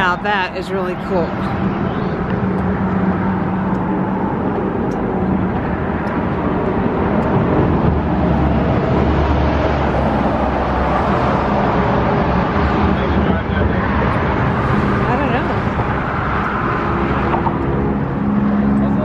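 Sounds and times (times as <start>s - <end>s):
car driving road noise: 0.0s - 19.0s.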